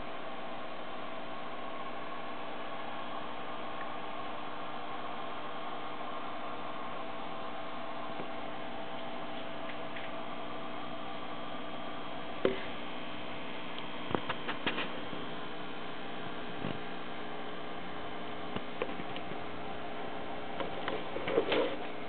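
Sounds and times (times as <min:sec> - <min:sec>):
aquarium equipment humming: 0:00.0 - 0:22.0.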